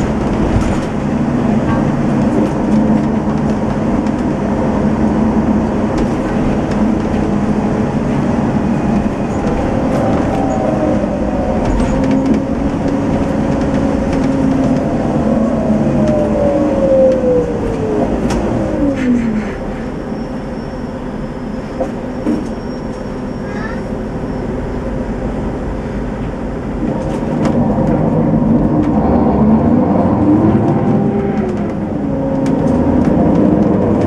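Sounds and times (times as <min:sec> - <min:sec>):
coach diesel engine running: 0:00.0 - 0:34.0.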